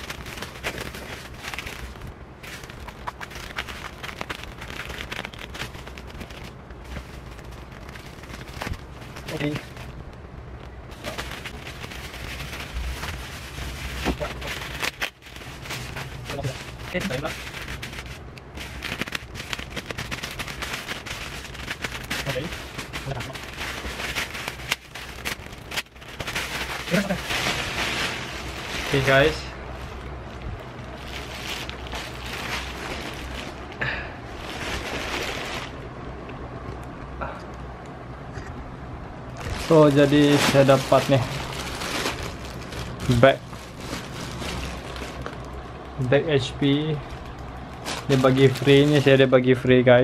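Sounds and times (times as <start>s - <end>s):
plastic packaging crinkling: 0.0s - 35.9s, 39.3s - 50.0s
low hum: 0.0s - 49.9s.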